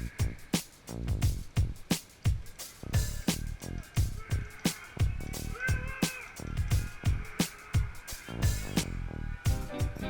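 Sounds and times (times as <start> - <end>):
funky music with drum beat: 0.0 - 10.0.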